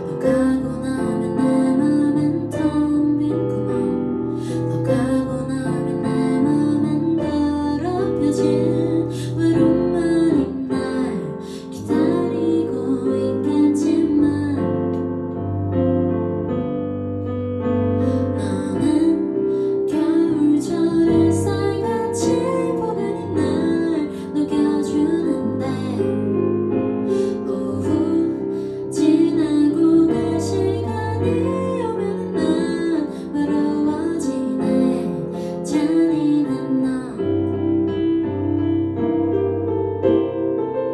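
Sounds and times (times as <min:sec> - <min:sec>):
woman singing a ballad: 0:00.0 - 0:15.2, 0:18.0 - 0:39.0
keyboard piano accompaniment: 0:00.0 - 0:40.9.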